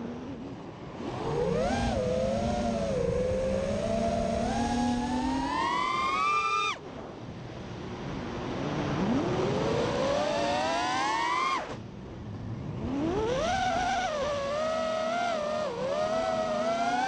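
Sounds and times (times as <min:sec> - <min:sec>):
drone motors whining: 0:00.0 - 0:06.8, 0:09.0 - 0:11.8, 0:12.8 - 0:17.0
wind rushing over camera: 0:00.0 - 0:17.0.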